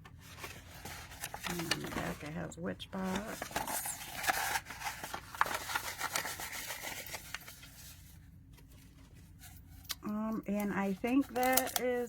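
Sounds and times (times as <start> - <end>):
paper card rustling: 0.0 - 12.0.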